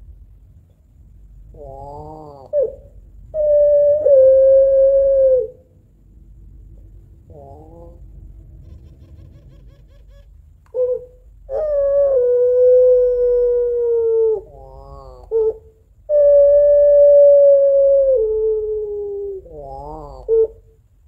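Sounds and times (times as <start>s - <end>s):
dove calling: 1.5s - 5.8s, 7.2s - 20.8s.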